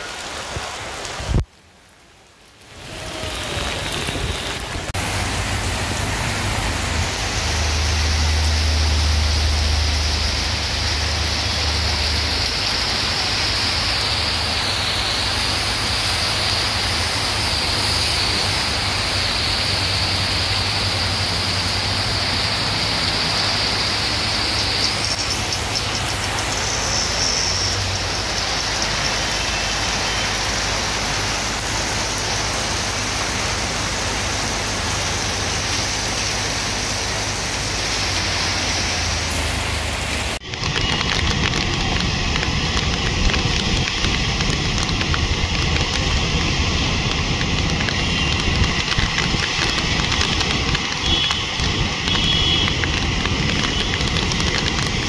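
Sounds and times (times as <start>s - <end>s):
heavy rain pouring: 0.0s - 55.0s
vehicles driving on wet road: 0.0s - 55.0s.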